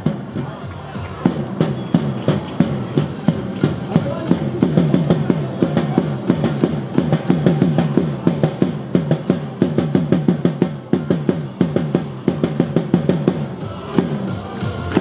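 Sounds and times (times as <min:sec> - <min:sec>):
baseball cheer music: 0:00.0 - 0:15.0
quick steady drumbeat: 0:00.0 - 0:15.0.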